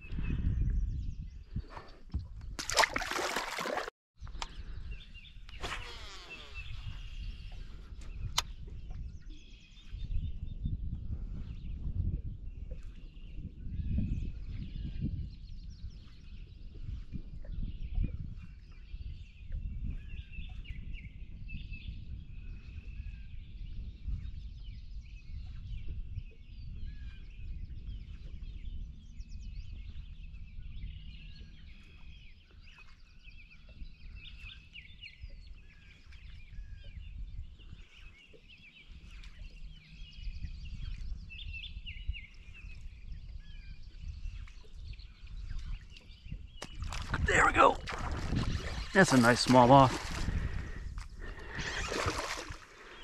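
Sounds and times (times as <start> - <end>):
wind rumble on microphone: 0.0 - 3.2, 4.2 - 53.0
birds chirping and singing: 4.2 - 10.8, 13.0 - 53.0.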